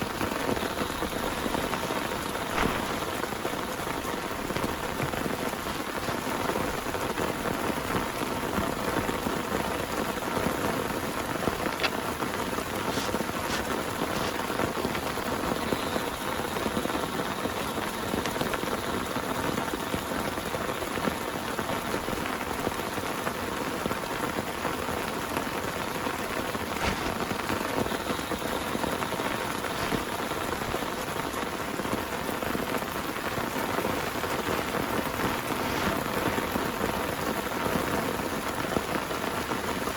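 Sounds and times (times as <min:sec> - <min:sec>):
heavy rain pouring: 0:00.0 - 0:39.9
sharp raindrop hits: 0:00.0 - 0:39.9.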